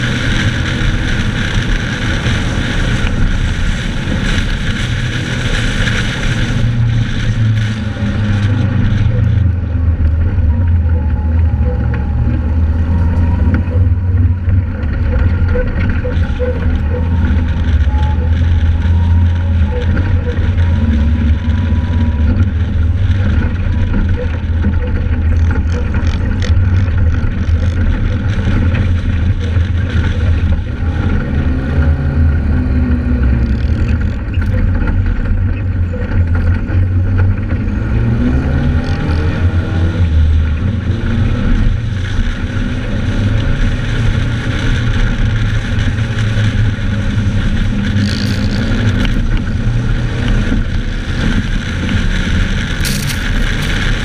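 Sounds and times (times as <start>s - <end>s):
vehicle engine under load: 0.0s - 54.0s
wind noise on microphone: 0.0s - 54.0s.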